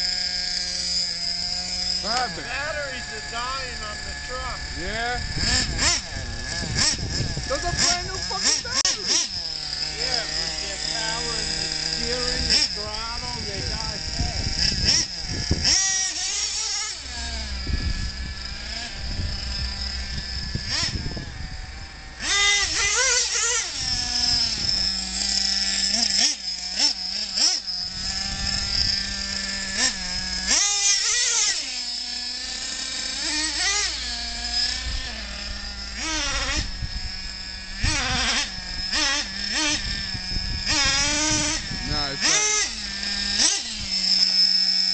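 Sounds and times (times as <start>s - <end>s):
steady high-pitched whine: 0.0s - 44.9s.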